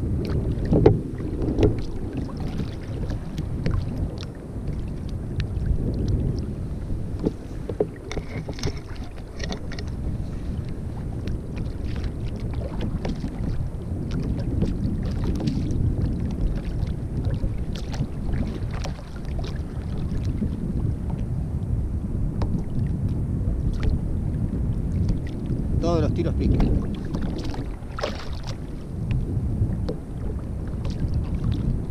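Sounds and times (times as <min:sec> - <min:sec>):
steady low rumble: 0:00.0 - 0:31.9
wind buffeting microphone: 0:00.0 - 0:31.9
water slaps against kayak: 0:00.2 - 0:21.3, 0:22.3 - 0:31.9.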